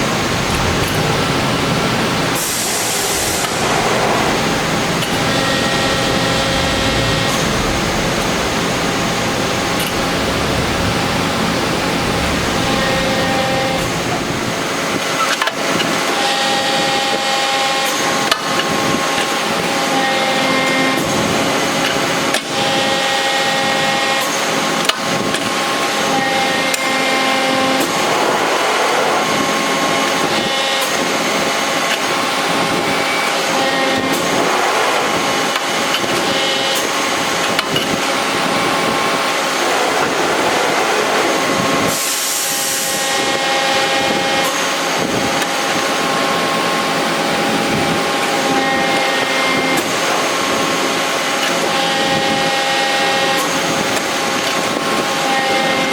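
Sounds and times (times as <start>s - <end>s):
press brake humming and whining: 0.0s - 55.9s.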